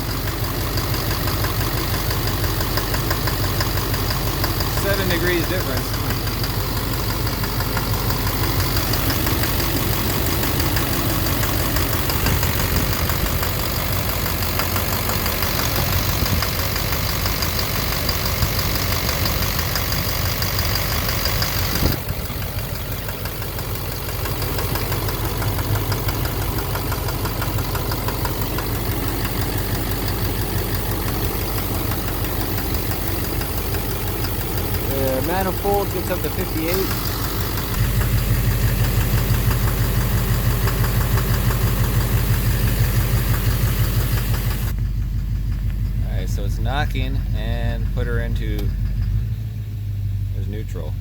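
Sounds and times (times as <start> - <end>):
diesel engine idling with knock: 0.0 - 51.0.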